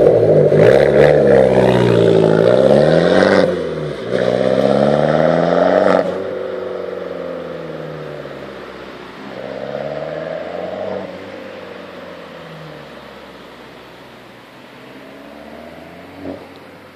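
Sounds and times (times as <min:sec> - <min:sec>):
car exhaust revving: 0:00.0 - 0:16.9.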